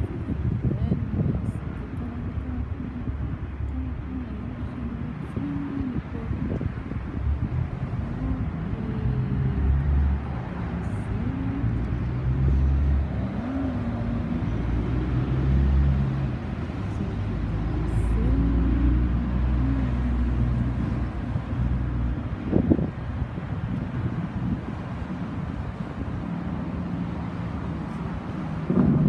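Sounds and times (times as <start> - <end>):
road traffic passing: 0.0 - 29.0
wind rumble on microphone: 0.0 - 29.0.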